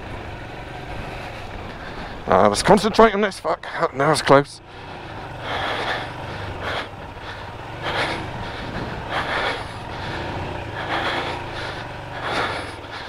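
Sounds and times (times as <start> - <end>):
motorcycle engine running slowly: 0.0 - 13.0.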